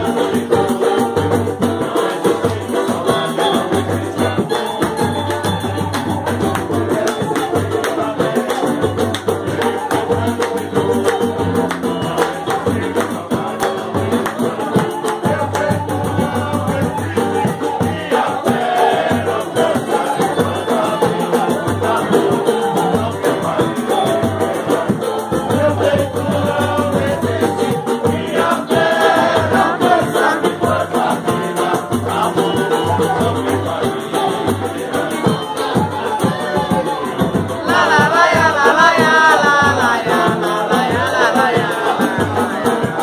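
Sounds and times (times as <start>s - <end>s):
guitars strumming: 0.0s - 43.0s
hand drum: 0.0s - 43.0s
men singing together: 0.0s - 43.0s.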